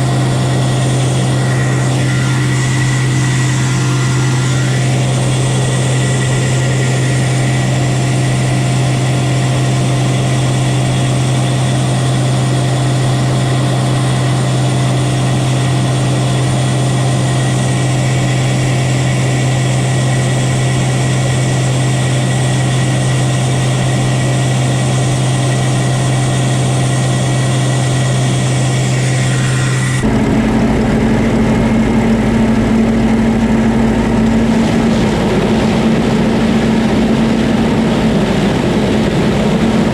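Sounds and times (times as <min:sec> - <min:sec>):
engine with higher hum: 0:00.0 - 0:39.9
heavy machinery engine droning: 0:00.0 - 0:39.9.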